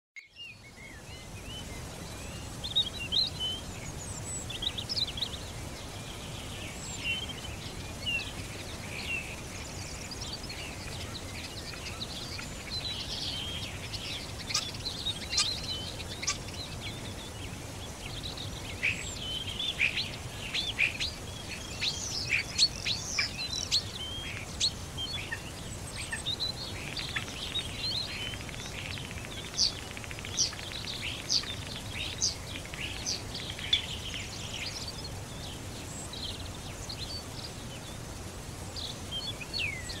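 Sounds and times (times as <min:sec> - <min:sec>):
nightingale singing: 0:00.2 - 0:40.0.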